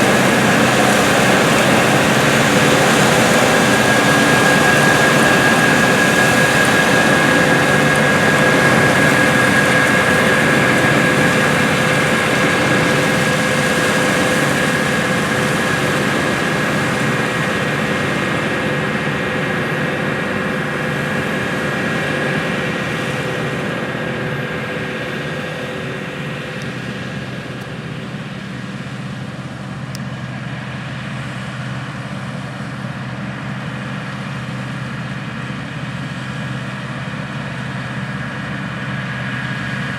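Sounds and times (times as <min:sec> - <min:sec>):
high machine whine: 0:00.0 - 0:33.4
diesel engine running: 0:00.0 - 0:39.9.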